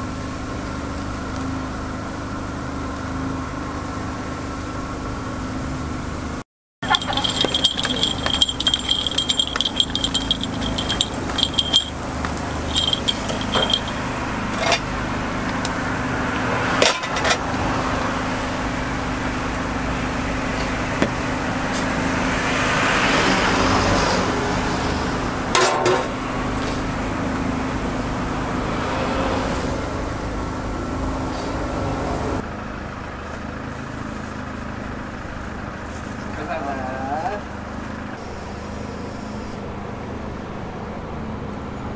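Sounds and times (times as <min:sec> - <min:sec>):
steady traffic noise: 0:00.0 - 0:41.9.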